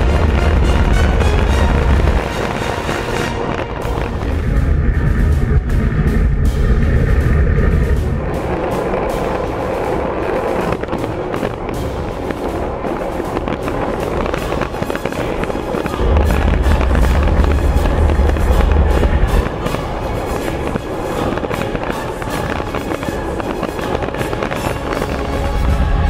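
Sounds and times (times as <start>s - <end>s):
background music: 0.0s - 26.0s
wind buffeting microphone: 0.0s - 26.0s.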